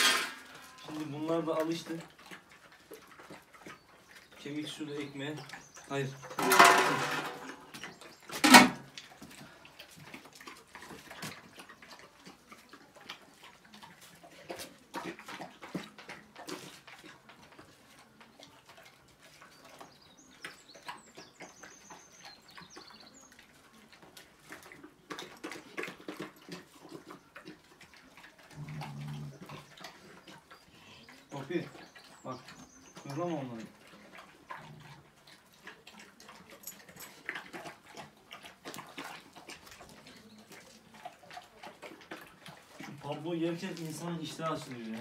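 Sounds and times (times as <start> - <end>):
dogs lapping and chewing: 0.0 - 45.0.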